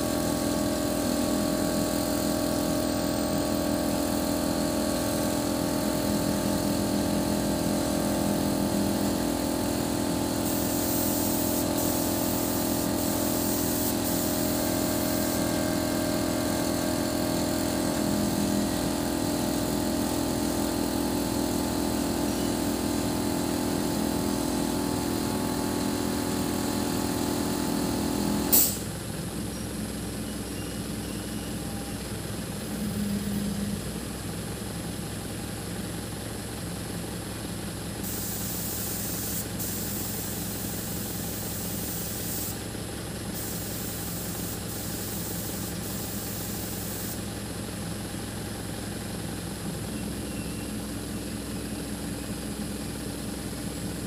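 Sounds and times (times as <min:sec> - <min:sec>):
engine droning and idling: 0:00.0 - 0:54.0.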